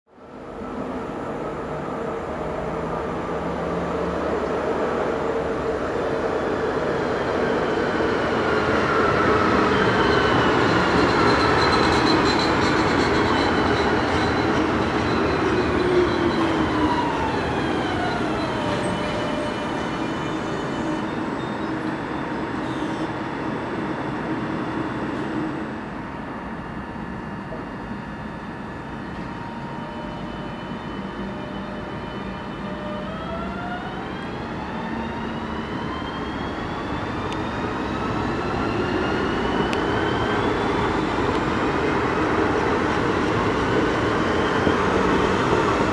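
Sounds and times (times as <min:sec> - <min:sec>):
electric train pulling into station: 0:00.2 - 0:45.9.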